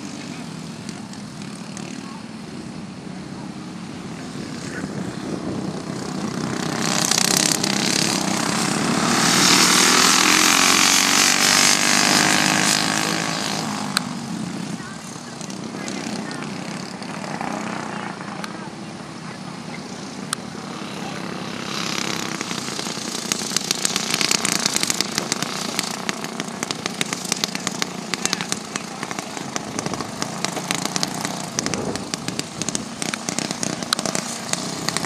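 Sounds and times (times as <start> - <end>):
kart engine passing by: 0.0 - 35.0.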